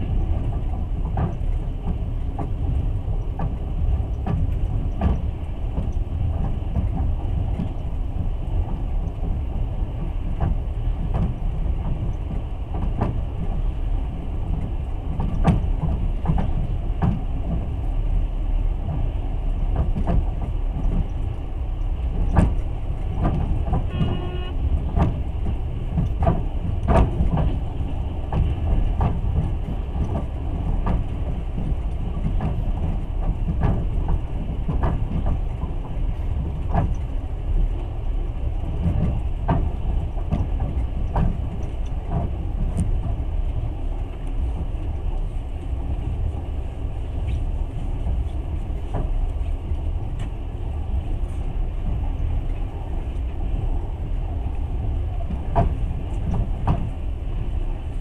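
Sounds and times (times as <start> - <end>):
train wheels rumbling: 0.0 - 58.0
wheels clicking over rail joints: 0.0 - 58.0.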